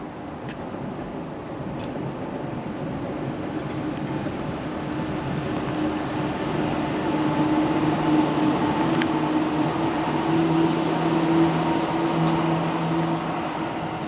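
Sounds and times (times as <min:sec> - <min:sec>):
train rumbling on viaduct: 0:00.0 - 0:14.0.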